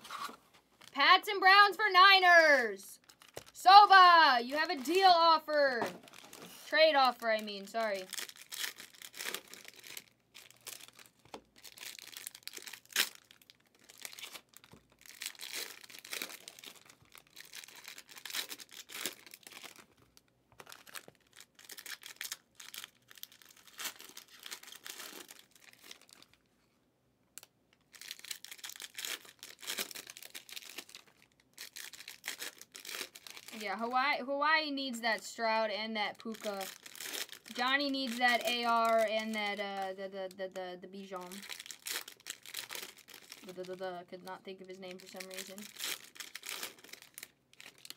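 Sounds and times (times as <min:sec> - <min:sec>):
foil wrappers crinkling and tearing: 0:00.0 - 0:26.5, 0:27.4 - 0:33.9, 0:35.2 - 0:47.9.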